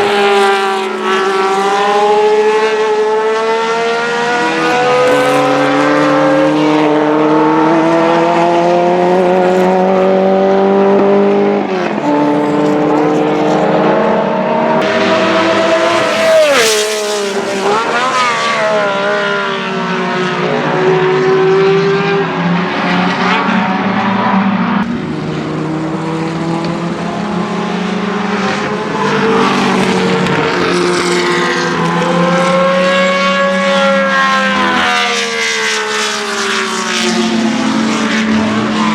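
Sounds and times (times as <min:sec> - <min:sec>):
racing engine at high revs: 0:00.0 - 0:38.9.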